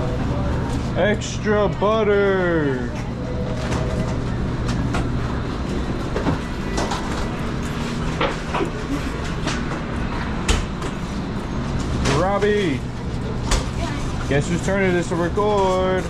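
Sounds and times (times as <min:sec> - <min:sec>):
low machine drone: 0:00.0 - 0:16.0.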